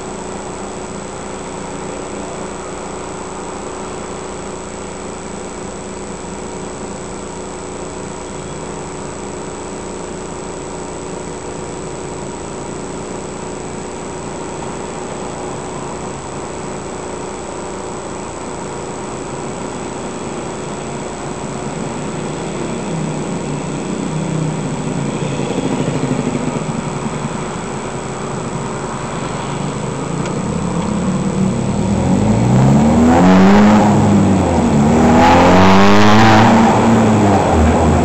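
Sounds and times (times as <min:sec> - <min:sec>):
car engine running steadily: 0:00.0 - 0:38.0
constant noise: 0:00.0 - 0:38.0.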